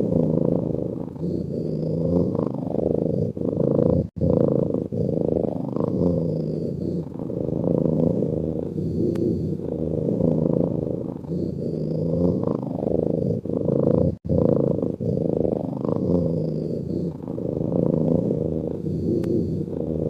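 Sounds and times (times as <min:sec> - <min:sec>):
cat purring snore: 0:00.0 - 0:20.0.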